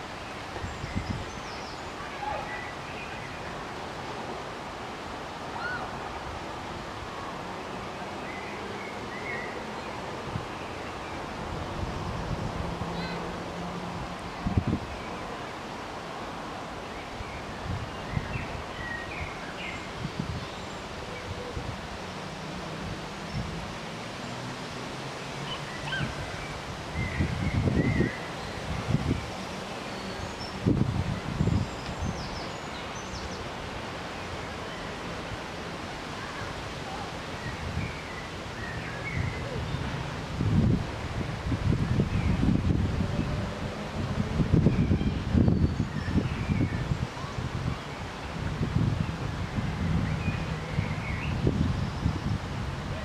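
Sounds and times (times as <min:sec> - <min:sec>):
outdoor background hiss: 0:00.0 - 0:53.0.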